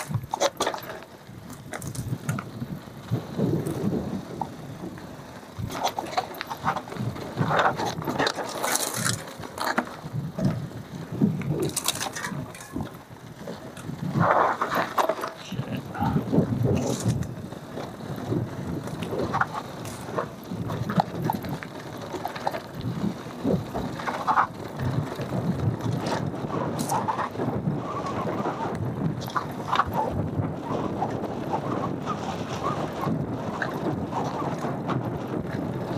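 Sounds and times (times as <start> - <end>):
bike rattling over bumps: 0.0 - 35.9
bike tyres on dirt: 0.0 - 35.9.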